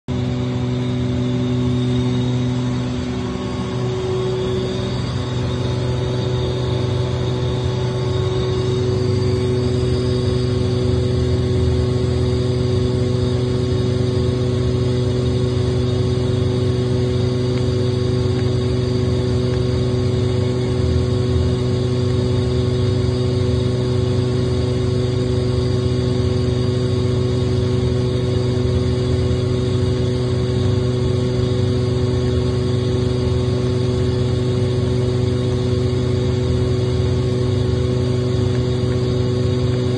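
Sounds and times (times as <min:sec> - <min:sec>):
air compressor running: 0:00.1 - 0:39.9.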